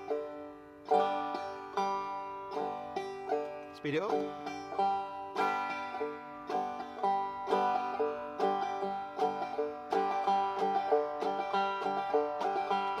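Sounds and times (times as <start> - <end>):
banjo clawhammer playing: 0.0 - 13.0.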